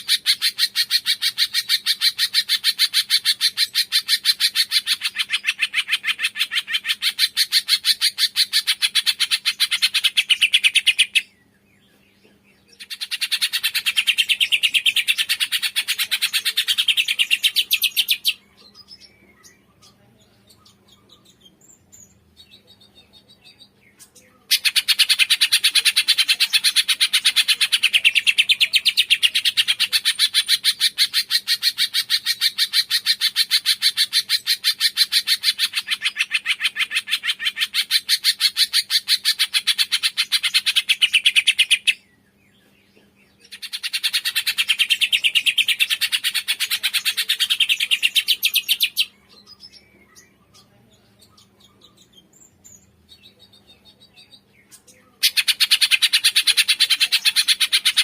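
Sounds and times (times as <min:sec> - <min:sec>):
bird chirping rapidly: 0:00.0 - 0:11.6, 0:12.7 - 0:19.9, 0:20.6 - 0:42.0, 0:43.4 - 0:58.0.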